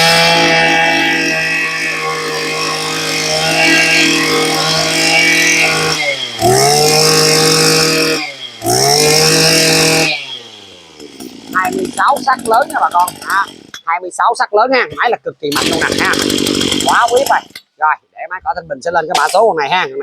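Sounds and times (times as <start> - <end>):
brush cutter engine revving: 0.0 - 13.9, 14.7 - 17.7, 18.3 - 20.0.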